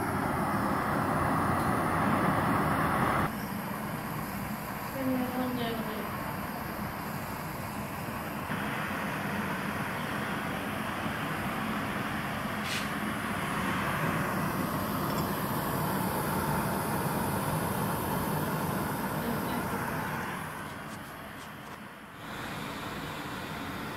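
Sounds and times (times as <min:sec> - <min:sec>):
gas torch flame hissing: 0:00.0 - 0:23.9.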